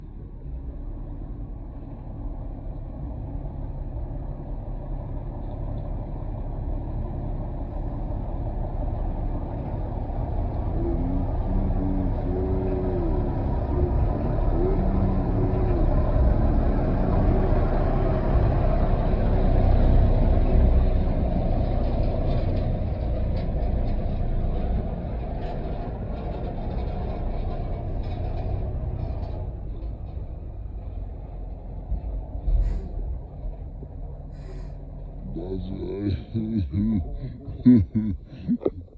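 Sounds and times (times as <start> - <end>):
truck diesel engine running: 1.8 - 38.9.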